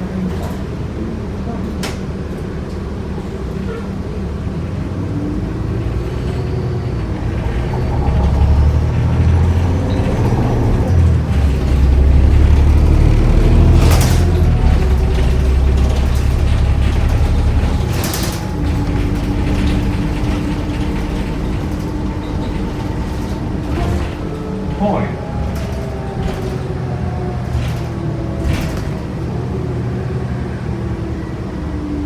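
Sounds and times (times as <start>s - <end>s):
bus body rattle: 0.0s - 31.6s
bus engine drone: 0.0s - 32.0s.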